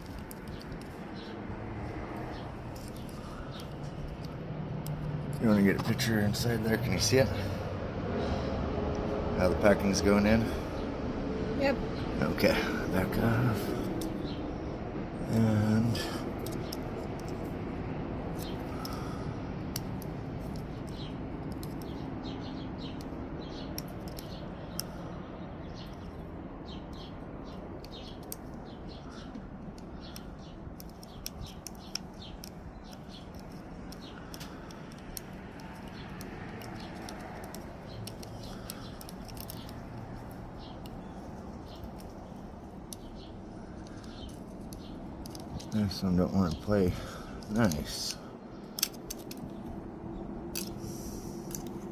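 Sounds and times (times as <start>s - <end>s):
small parts clicking: 0.0s - 7.4s, 15.3s - 51.9s
low background hum: 0.0s - 51.9s.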